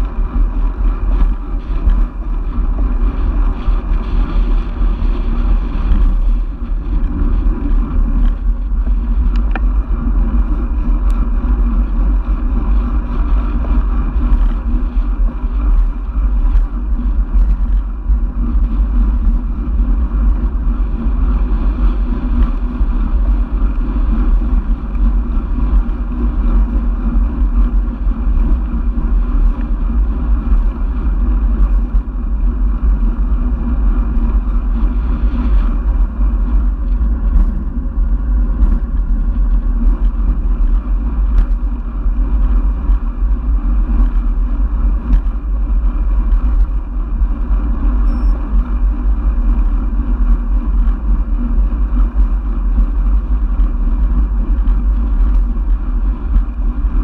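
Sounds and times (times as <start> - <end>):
road noise: 0.0 - 57.0
wind buffeting: 0.0 - 57.0.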